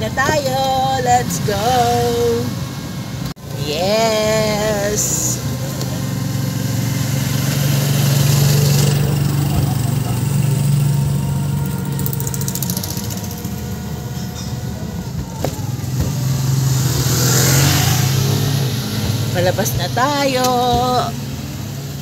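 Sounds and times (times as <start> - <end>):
wind and road noise: 0.0 - 22.0
motorcycle engine running: 3.4 - 21.4.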